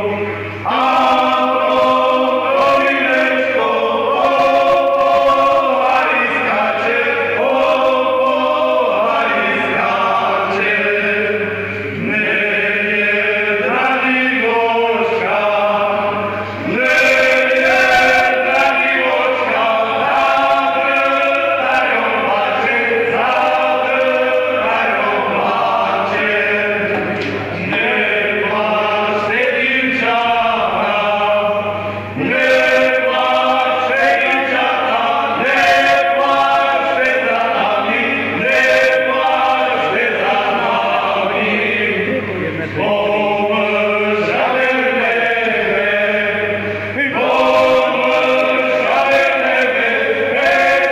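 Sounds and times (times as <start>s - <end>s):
folk ensemble singing in chorus: 0.0s - 50.9s.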